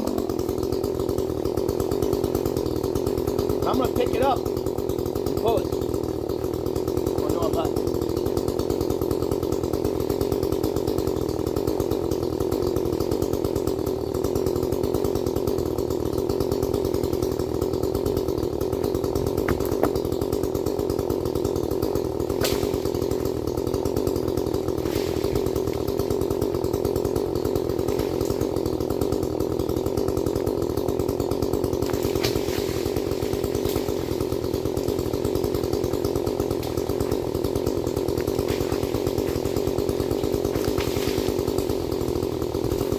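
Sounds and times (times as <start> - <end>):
chainsaw running: 0.0 - 42.9.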